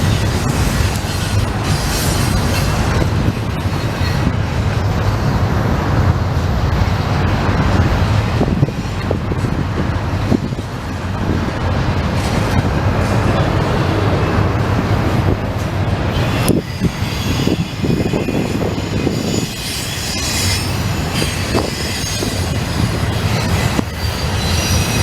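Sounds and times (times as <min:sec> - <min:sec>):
freight train rumbling past: 0:00.0 - 0:25.0
sharp train clanks: 0:00.0 - 0:25.0.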